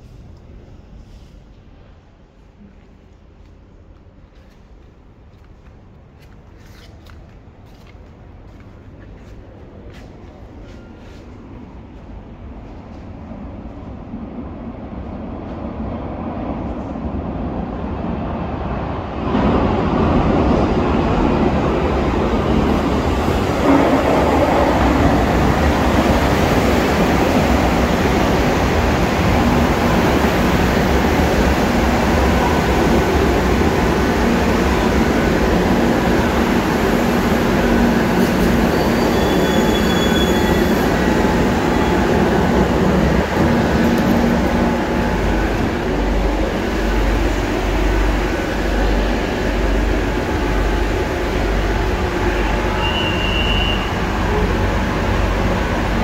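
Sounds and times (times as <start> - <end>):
low hum inside train car: 0.0 - 56.0
metro train running noise: 0.0 - 56.0.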